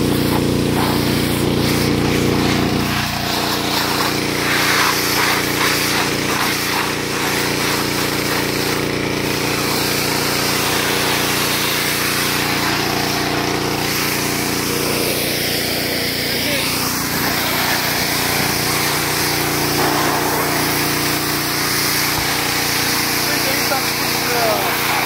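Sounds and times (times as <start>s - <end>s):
pressure washer engine running: 0.0s - 25.0s
water jet spray hissing: 0.0s - 25.0s.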